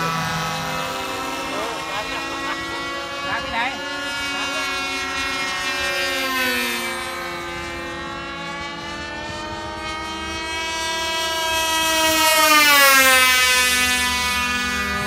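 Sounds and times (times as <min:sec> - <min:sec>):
model airplane engine buzzing whine: 0:00.0 - 0:15.0.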